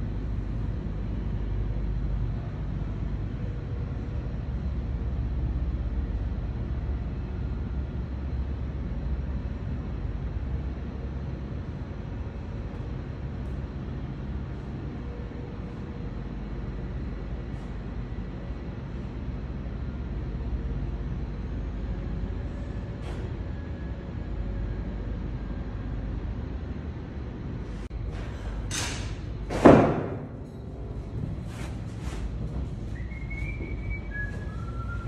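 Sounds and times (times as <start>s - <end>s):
machinery rumble and hum: 0.0s - 35.0s.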